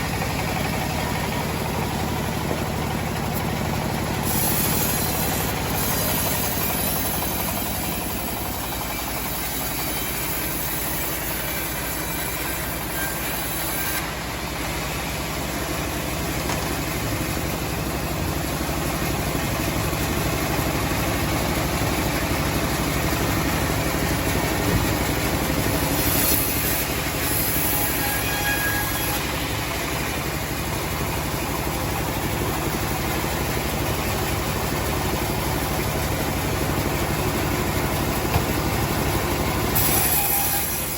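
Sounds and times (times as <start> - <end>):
sawmill motor drone: 0.0 - 40.9.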